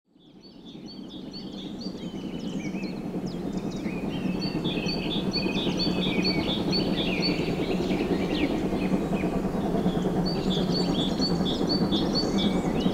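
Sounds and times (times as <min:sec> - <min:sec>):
songbirds singing and chirping: 0:00.2 - 0:12.9.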